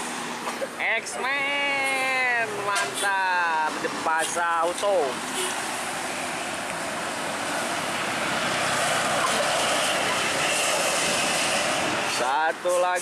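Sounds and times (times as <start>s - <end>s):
bus engine and tyre noise: 0.0s - 13.0s.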